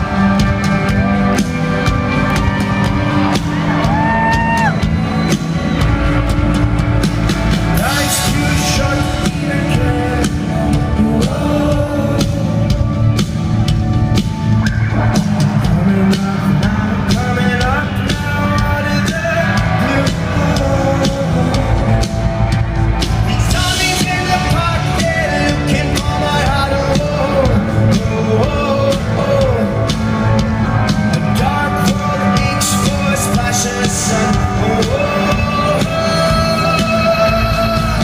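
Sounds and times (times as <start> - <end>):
lead singer: 0.0 - 38.0
rock band playing live: 0.0 - 38.0.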